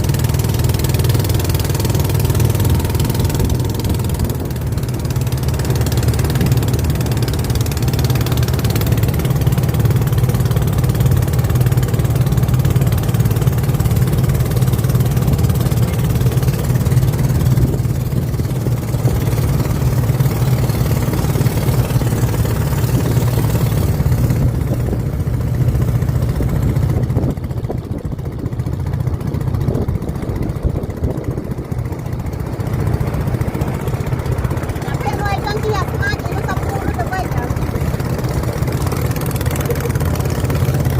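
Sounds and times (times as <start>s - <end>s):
motorboat engine droning: 0.0s - 40.9s.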